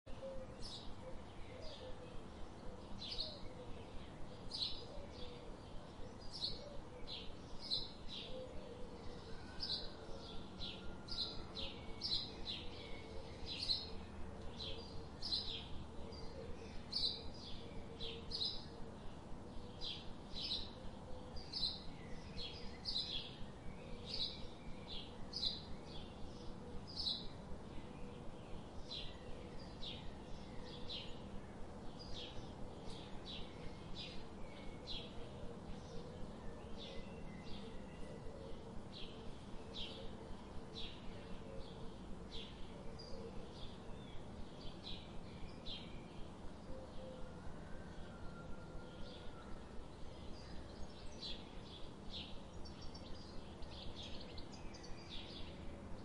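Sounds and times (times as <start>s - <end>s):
bird chirping: 0.1s - 56.0s
faint steady hum: 0.1s - 56.0s.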